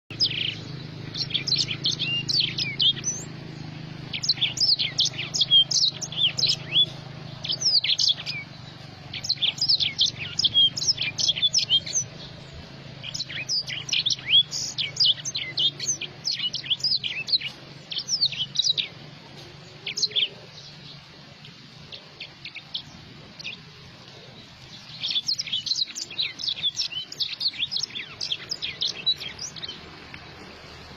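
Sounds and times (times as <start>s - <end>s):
songbird twittering: 0.1s - 30.9s.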